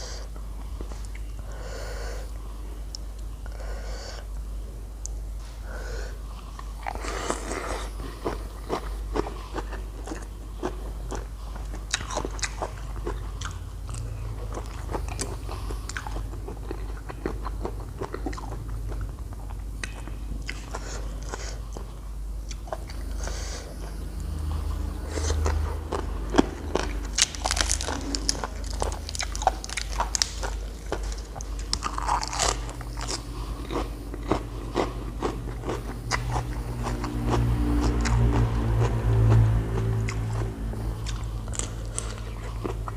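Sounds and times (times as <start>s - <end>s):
steady low hum: 0.0s - 42.9s
biting and crunching food: 6.6s - 21.9s, 22.5s - 42.9s.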